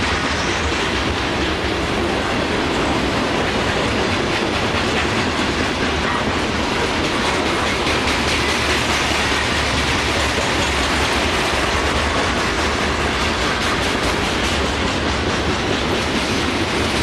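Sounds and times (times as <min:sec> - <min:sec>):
train wheels rumbling on rail: 0:00.0 - 0:17.0
wheels clicking over rail joints: 0:00.0 - 0:17.0.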